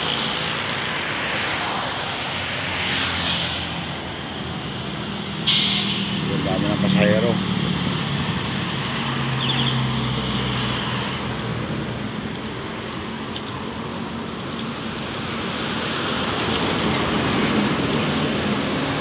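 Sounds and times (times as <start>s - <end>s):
highway traffic passing: 0.0s - 19.0s
large truck passing close: 0.0s - 19.0s.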